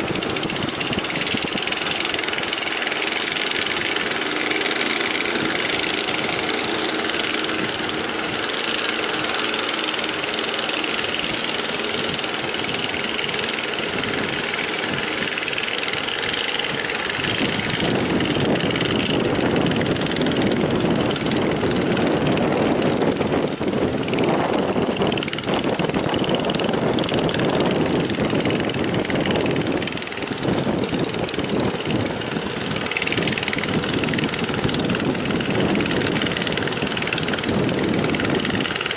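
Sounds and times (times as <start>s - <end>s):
speedboat outboard motor: 0.0s - 38.9s
wind: 0.0s - 38.9s.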